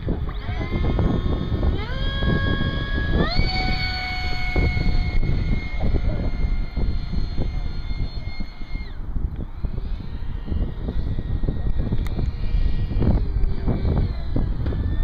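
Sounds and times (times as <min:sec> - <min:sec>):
model jet ducted-fan whine: 0:00.0 - 0:15.0
wind buffeting microphone: 0:00.0 - 0:15.0.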